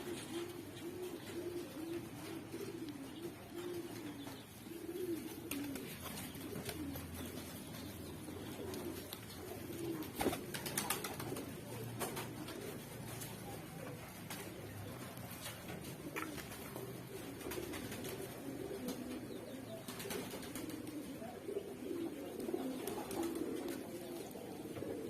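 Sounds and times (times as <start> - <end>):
pigeons cooing: 0.0 - 25.0.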